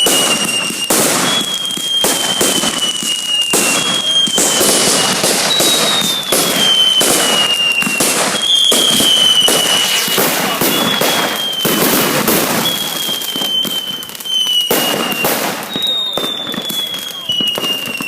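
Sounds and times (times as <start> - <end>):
fireworks banging and crackling: 0.0 - 18.0
high whistle sliding down: 0.0 - 18.0.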